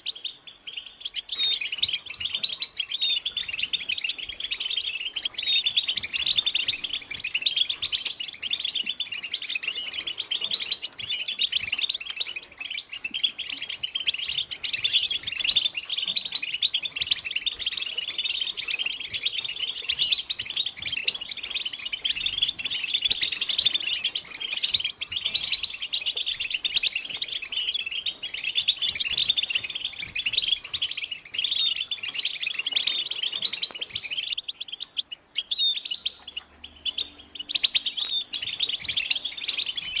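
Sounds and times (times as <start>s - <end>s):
goldfinches twittering: 0.0s - 40.0s.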